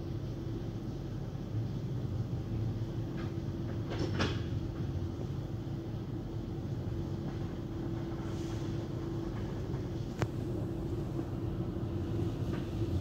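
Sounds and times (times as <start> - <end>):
muffled car wash rumble: 0.0 - 13.0.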